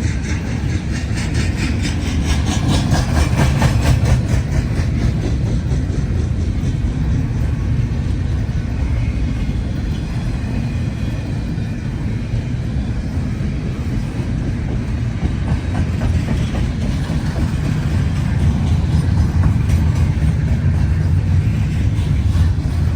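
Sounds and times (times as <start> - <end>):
freight train wheels rumbling: 0.0 - 22.9.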